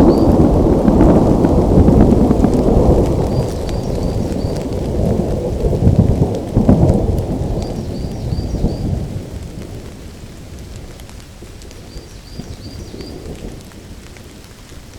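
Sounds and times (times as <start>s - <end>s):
steady rain: 0.0s - 14.9s
thunder rumbling: 0.0s - 14.9s.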